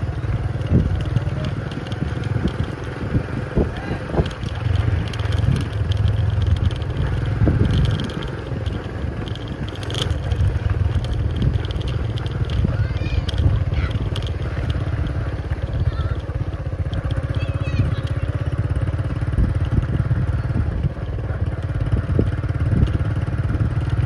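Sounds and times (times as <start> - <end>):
small motorcycle engine rumbling: 0.0 - 24.0.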